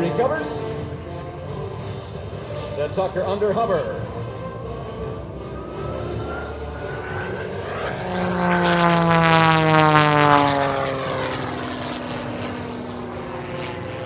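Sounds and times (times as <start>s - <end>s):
propeller plane passing by: 0.0s - 14.0s.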